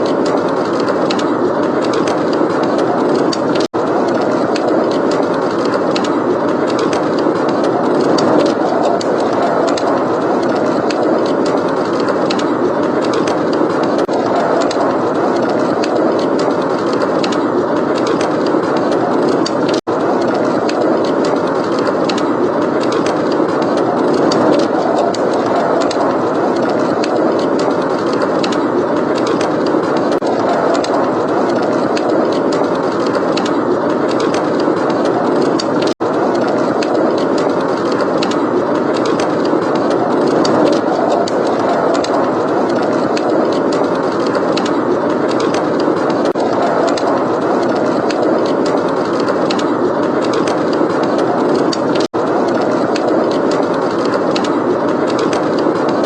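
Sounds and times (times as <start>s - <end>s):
blizzard wind rushing: 0.0s - 56.0s
wood fire crackling: 0.0s - 56.0s.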